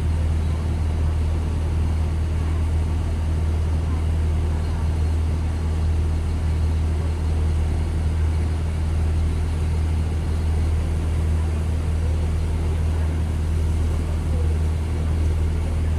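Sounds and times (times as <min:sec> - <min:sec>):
low engine drone: 0:00.0 - 0:15.9.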